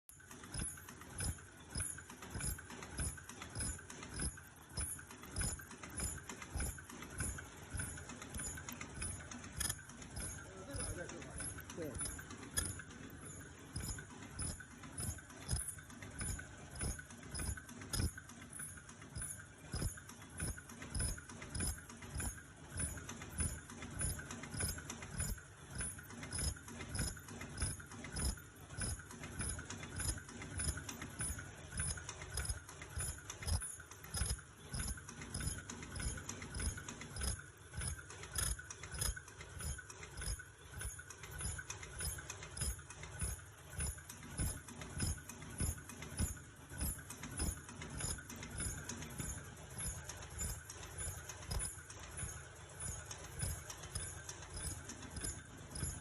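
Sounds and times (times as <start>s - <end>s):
machine clunking rhythmically: 0.0s - 56.0s
machine hum: 0.1s - 56.0s.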